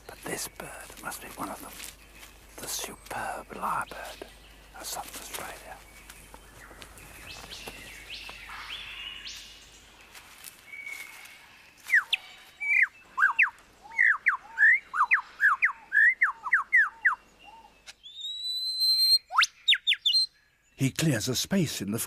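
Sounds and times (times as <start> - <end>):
forest birdsong: 0.0 - 22.0
lyrebird singing: 0.0 - 22.0.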